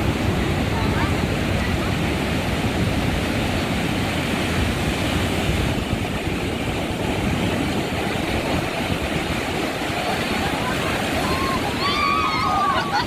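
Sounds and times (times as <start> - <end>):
ocean surf on a beach: 0.0 - 13.0
wind on the microphone: 0.0 - 13.0.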